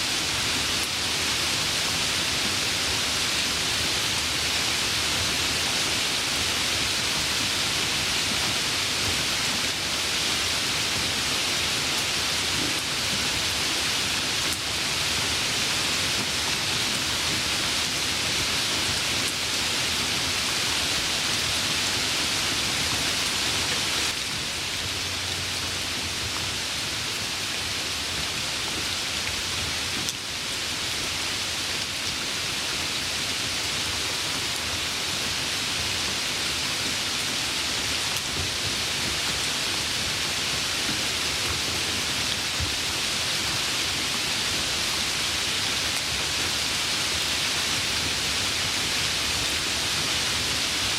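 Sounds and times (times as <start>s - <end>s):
heavy rain hissing: 0.0s - 50.9s.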